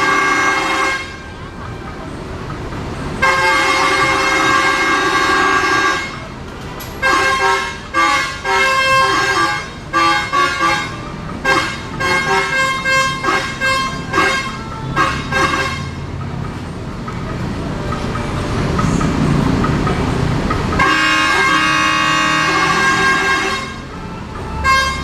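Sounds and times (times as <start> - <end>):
bus engine running: 0.0 - 25.0
musical bus horn tune: 0.0 - 25.0
traffic noise: 0.0 - 25.0.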